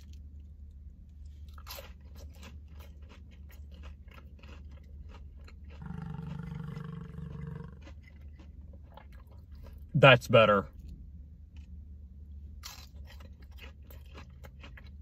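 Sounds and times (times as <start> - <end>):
crunchy chewing: 0.0 - 9.9, 12.6 - 15.0
low steady hum: 0.0 - 15.0.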